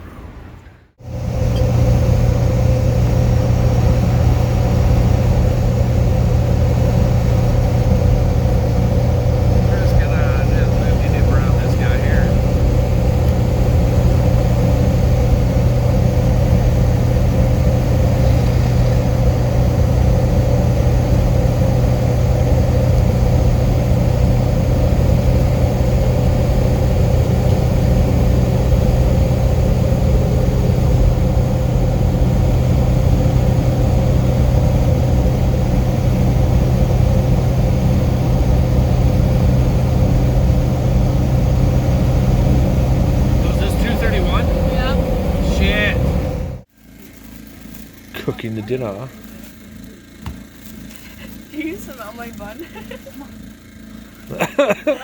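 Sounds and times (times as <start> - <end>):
vehicle engine running: 0.9 - 55.0.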